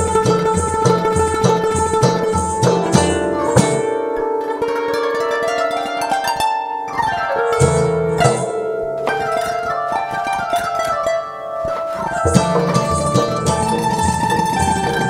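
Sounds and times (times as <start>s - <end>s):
rhythmic beat: 0.0s - 6.4s, 7.4s - 15.0s
plucked-string melody: 0.0s - 15.0s.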